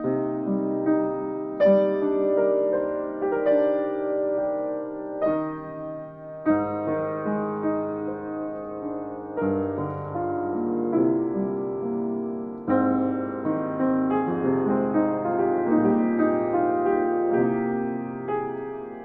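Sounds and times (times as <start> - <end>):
grand piano playing chords: 0.0 - 19.0.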